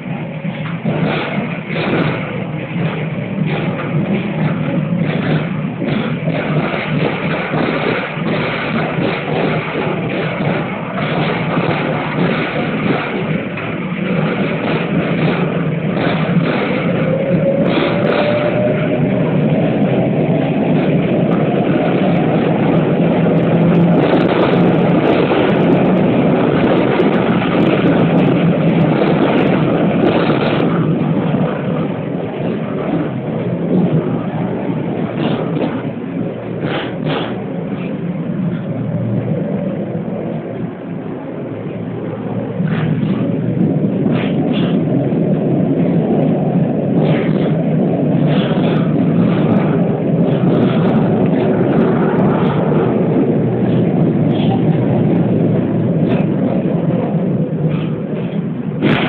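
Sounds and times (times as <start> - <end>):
tram body rattling: 0.0 - 59.0
tram wheels rumbling on rails: 0.0 - 59.0.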